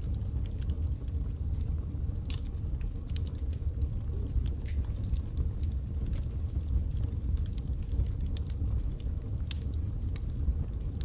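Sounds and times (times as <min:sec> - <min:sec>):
burning wood popping: 0:00.0 - 0:11.0
low rumble of flame: 0:00.0 - 0:11.0.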